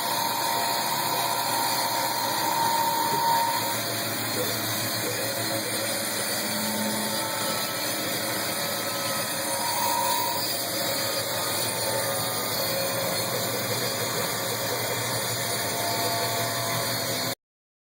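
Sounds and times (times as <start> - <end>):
band saw running: 0.0 - 17.4.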